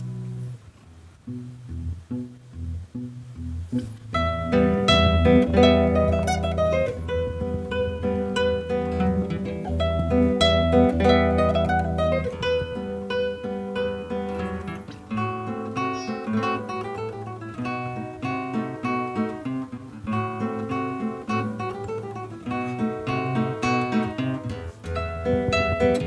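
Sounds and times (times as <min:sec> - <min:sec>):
classical guitar plucked notes: 0:00.0 - 0:26.0.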